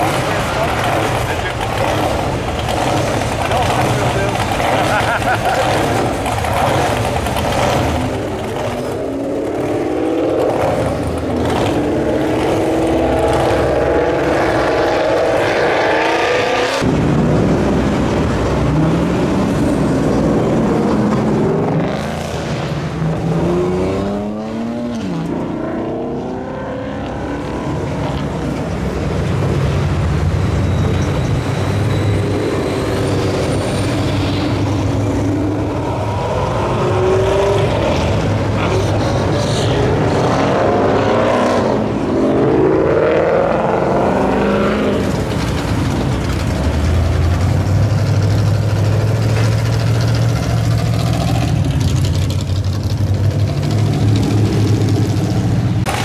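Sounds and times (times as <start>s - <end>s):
cars revving and accelerating: 0.0s - 56.0s.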